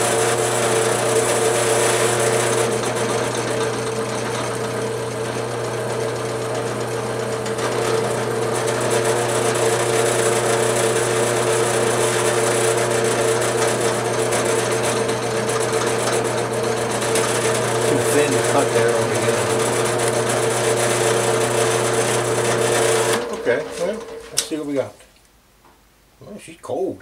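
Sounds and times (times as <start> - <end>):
drill press machine hum: 0.0 - 24.5
end mill cutting nylon: 0.0 - 24.6.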